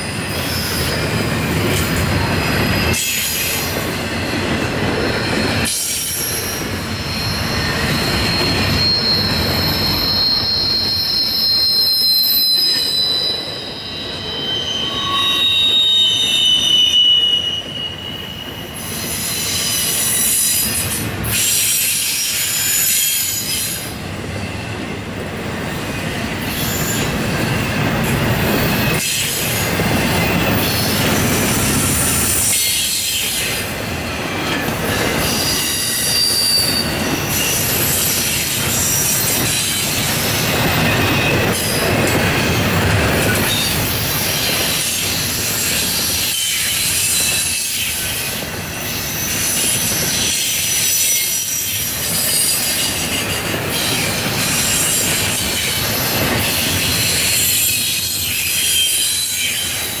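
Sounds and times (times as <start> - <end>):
train rolling rumble: 0.0 - 58.7
wheels squealing against rails: 0.0 - 60.0.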